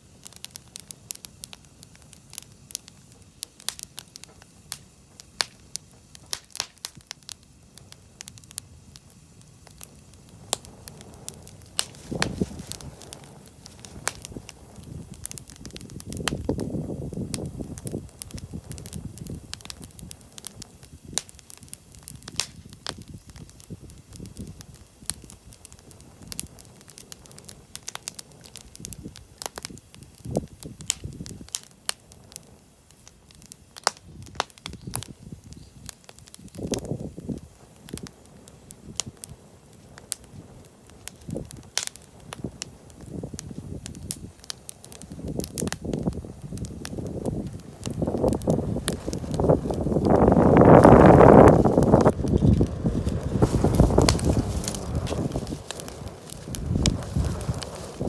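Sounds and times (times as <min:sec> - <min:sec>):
wood bonfire crackling: 0:00.0 - 0:58.0.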